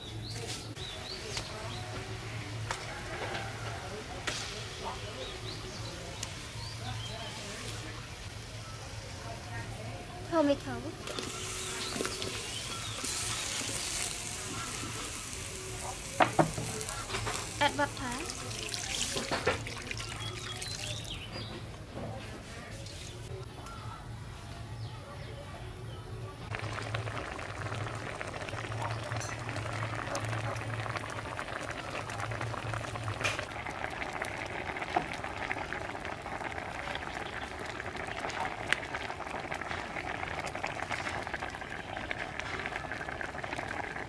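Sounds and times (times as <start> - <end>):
stew bubbling in a wok: 0.0 - 21.5, 26.4 - 44.0.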